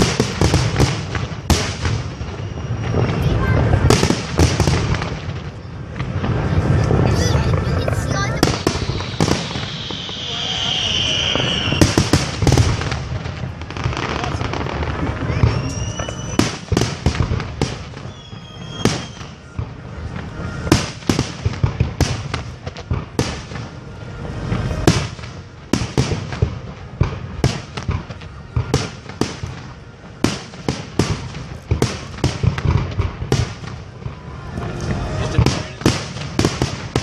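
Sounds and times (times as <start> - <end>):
continuous low rumble: 0.0 - 10.5, 11.7 - 37.0
firework bangs and crackles: 0.0 - 37.0.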